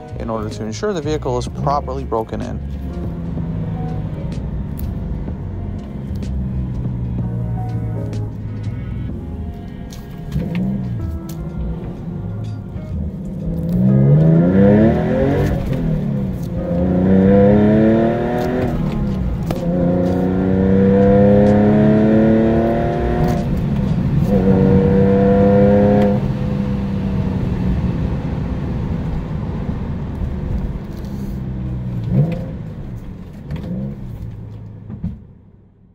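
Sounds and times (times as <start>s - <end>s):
car engine revving: 0.0s - 35.6s.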